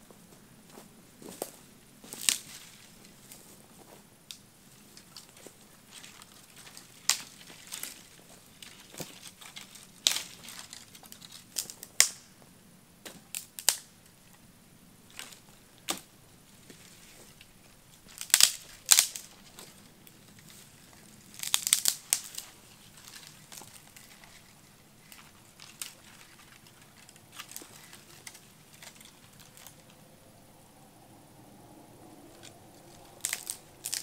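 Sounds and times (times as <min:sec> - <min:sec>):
dry twigs and grass crunching: 0:00.7 - 0:12.4, 0:13.0 - 0:14.4, 0:15.0 - 0:30.2, 0:32.2 - 0:34.0.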